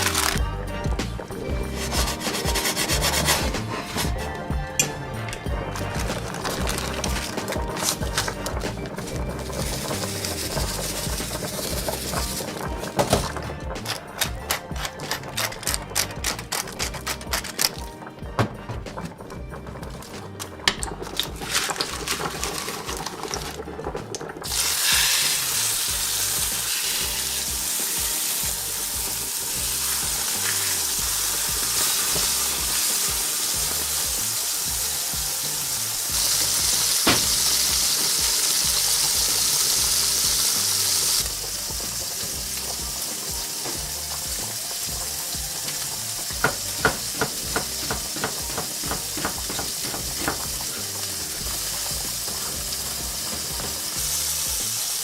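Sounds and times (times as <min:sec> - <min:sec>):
food sizzling in a frying pan: 0:00.0 - 0:13.4, 0:20.9 - 0:55.0.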